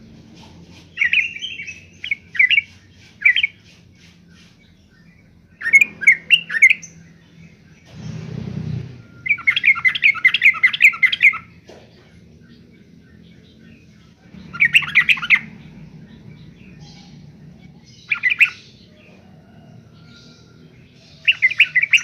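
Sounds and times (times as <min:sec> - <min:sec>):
bird singing chattering song: 0:00.0 - 0:22.0.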